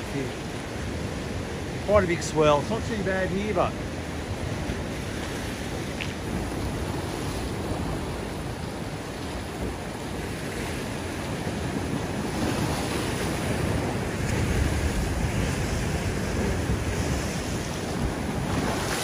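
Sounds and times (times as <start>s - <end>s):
surf washing against rocks: 0.0s - 19.0s
wind on microphone: 0.0s - 19.0s.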